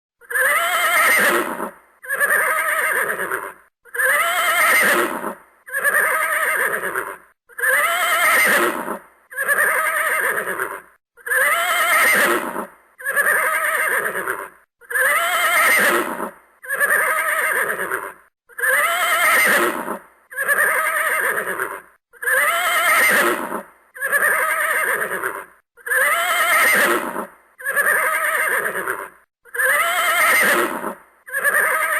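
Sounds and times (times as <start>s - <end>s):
horse neighing: 0.2s - 31.9s.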